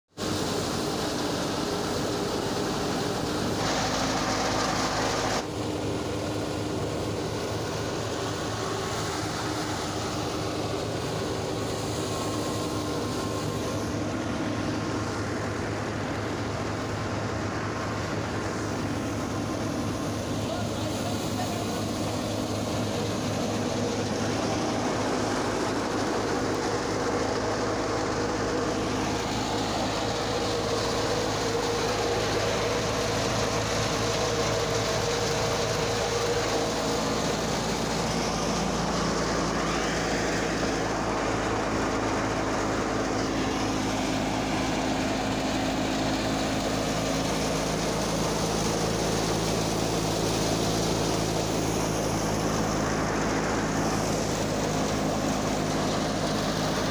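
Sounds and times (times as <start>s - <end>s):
tractor diesel engine hum: 0.1s - 56.9s
thresher mechanical drone: 0.2s - 56.9s.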